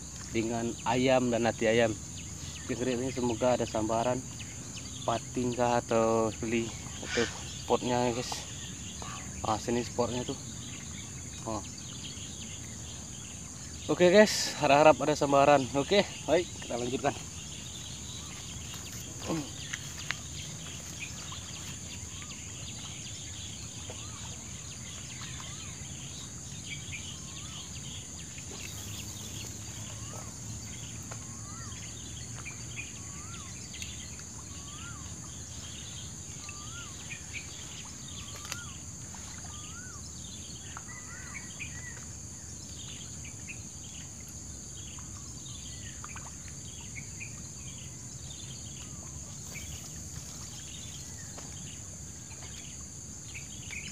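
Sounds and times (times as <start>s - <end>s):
birds chirping: 0.0s - 53.9s
insect drone: 0.0s - 53.9s.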